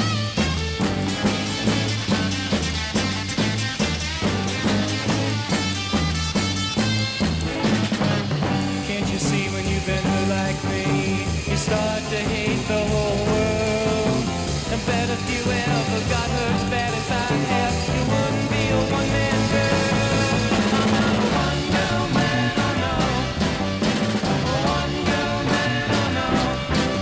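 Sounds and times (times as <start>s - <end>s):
electric rock band playing: 0.0s - 27.0s.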